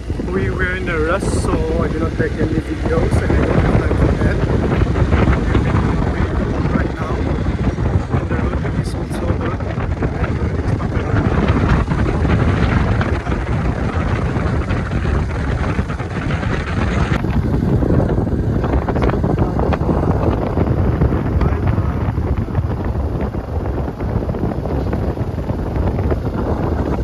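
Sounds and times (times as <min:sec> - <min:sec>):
steady low rumble: 0:00.0 - 0:27.0
wind buffeting microphone: 0:00.0 - 0:27.0.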